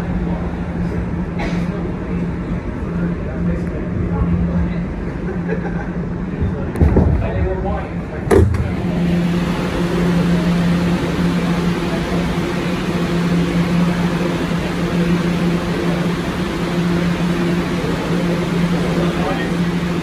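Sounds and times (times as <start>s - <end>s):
low electric hum: 0.0s - 20.0s.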